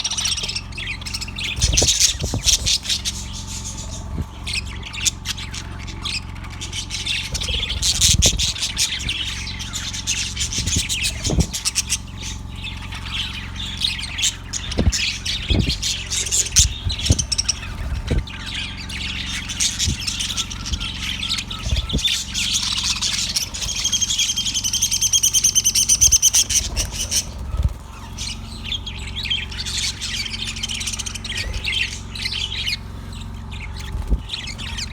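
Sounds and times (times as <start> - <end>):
budgerigar chirping: 0.0 - 34.9.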